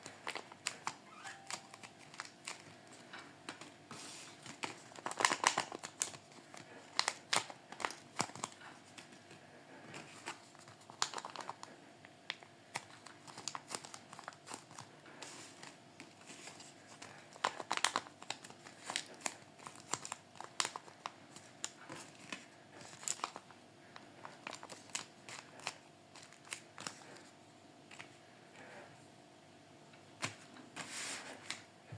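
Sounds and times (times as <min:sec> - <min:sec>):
paper packaging crinkling: 0:00.0 - 0:27.3.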